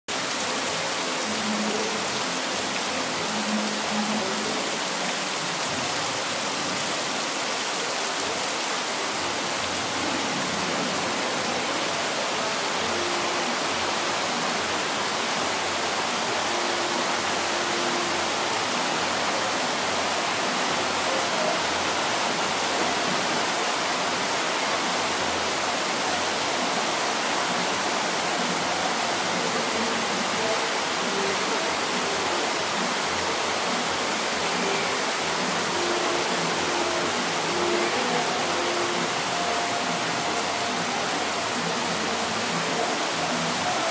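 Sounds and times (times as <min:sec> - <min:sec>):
heavy rain hissing: 0:00.1 - 0:43.9.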